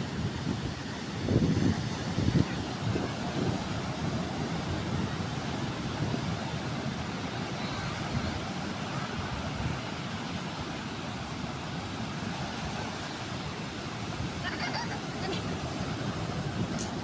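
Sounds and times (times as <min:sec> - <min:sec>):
surf: 0:00.0 - 0:17.0
wind: 0:00.0 - 0:17.0
wind buffeting microphone: 0:00.0 - 0:17.0.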